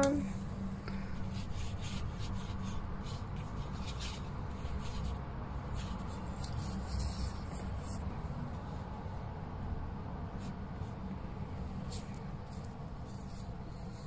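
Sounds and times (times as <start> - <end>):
paintbrush swishing on paper: 0.3 - 9.6, 10.2 - 14.0.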